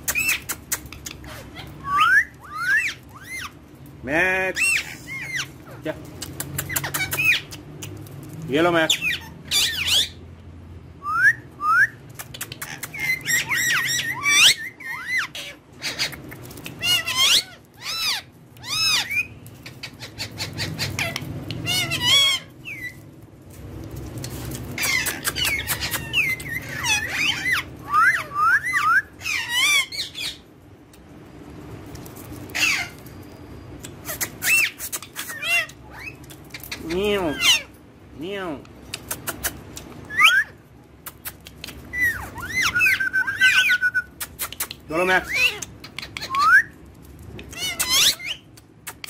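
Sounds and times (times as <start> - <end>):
parrots squawking and chirping: 0.0 - 10.4, 12.0 - 49.0.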